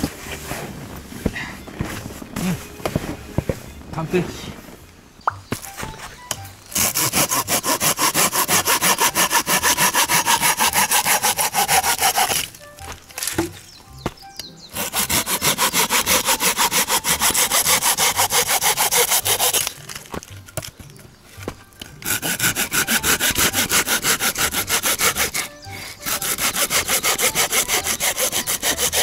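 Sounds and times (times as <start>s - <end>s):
pruning saw cutting branch: 5.6s - 29.0s.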